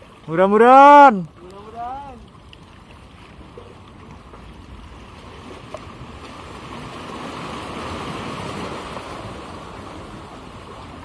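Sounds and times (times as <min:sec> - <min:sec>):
sea waves washing against concrete: 0:00.0 - 0:11.0.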